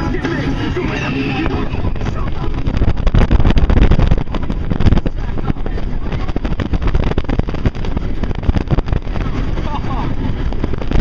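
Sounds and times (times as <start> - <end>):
roller coaster rattling on track: 0.0 - 11.0
wind buffeting microphone: 0.0 - 11.0.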